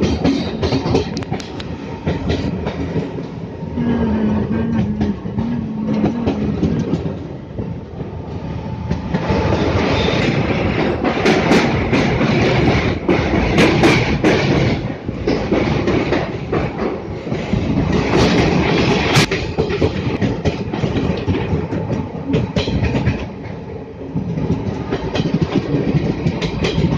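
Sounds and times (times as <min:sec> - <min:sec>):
train rumbling: 0:00.0 - 0:26.9
train wheels clattering on rails: 0:00.0 - 0:26.9.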